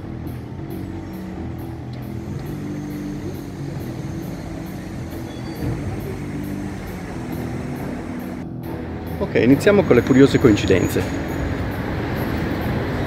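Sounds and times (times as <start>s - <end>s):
city road noise hum: 0.0s - 13.0s
vehicle engine running: 0.0s - 13.0s.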